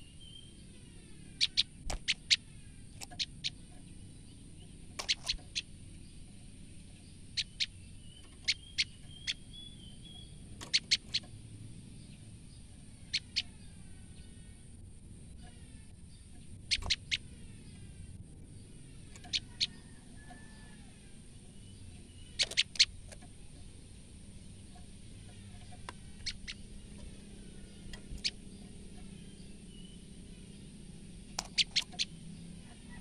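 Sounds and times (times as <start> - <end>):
bird alarm calls: 0.0 - 14.6, 15.3 - 23.7, 24.4 - 33.0.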